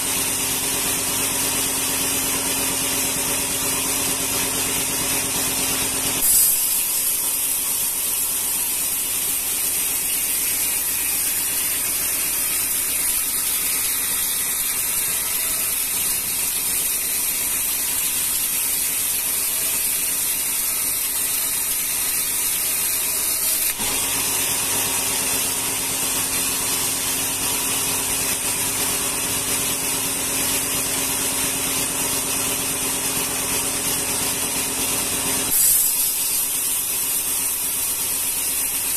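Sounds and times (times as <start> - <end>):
band saw blade cutting wood: 0.0 - 38.9.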